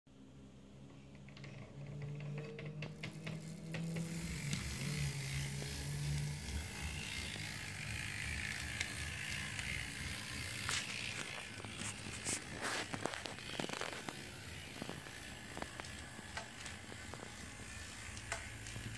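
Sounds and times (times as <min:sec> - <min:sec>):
wheels clicking on rails: 0:01.1 - 0:18.9
model train motor whirring: 0:02.0 - 0:18.9.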